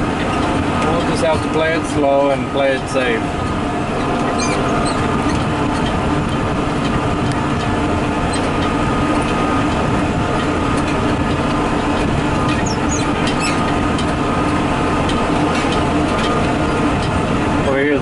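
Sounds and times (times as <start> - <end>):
diesel engine drone: 0.0 - 18.0
machine rattles and squeaks: 0.0 - 18.0.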